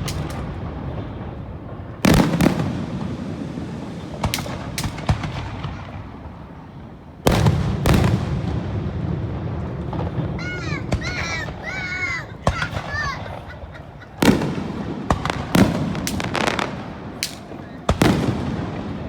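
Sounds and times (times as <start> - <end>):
fireworks cracks: 0.0 - 6.6, 7.2 - 19.0
fireworks booming: 0.0 - 19.0
low rolling echo: 0.0 - 19.0.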